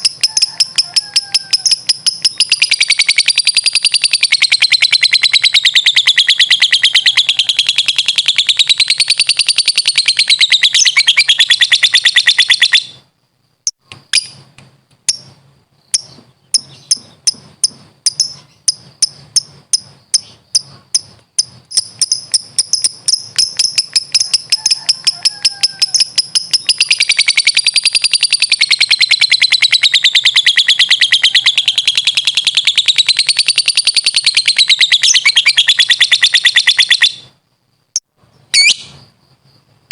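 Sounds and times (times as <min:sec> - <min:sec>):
lovebird shrill trill: 0:00.0 - 0:13.0, 0:18.1 - 0:37.3, 0:38.5 - 0:39.0.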